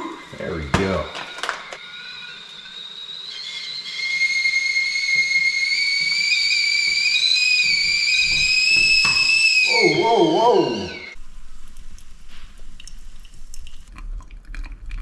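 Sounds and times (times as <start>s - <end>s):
kettle whistling: 0.0s - 12.9s.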